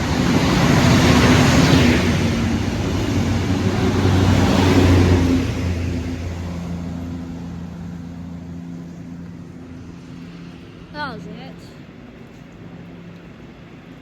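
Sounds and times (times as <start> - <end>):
diesel engine hum: 0.0 - 14.0.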